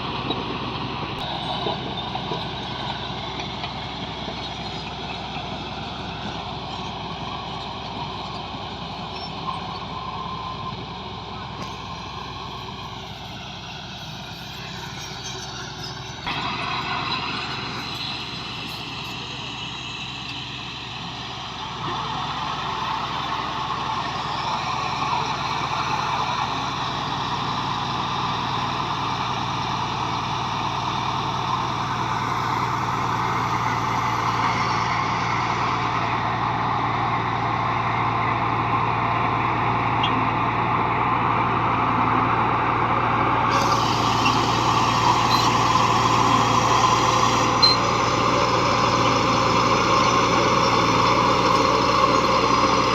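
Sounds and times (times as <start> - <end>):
bulldozer diesel engine: 0.0 - 52.9.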